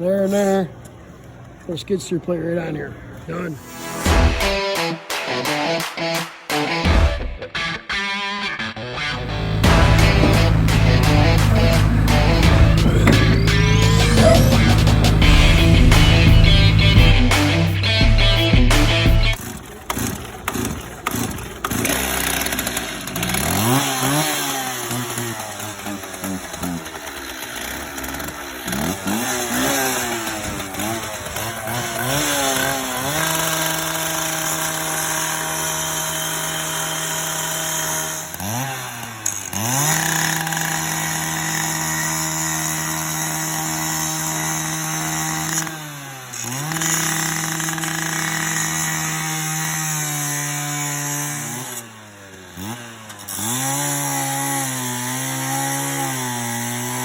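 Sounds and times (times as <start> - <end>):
power tool cutting steel: 3.5 - 4.9, 9.2 - 18.0, 18.7 - 57.0.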